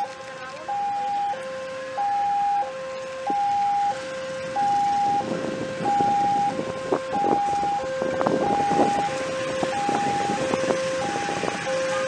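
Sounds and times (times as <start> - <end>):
two-tone level crossing alarm: 0.0 - 12.0.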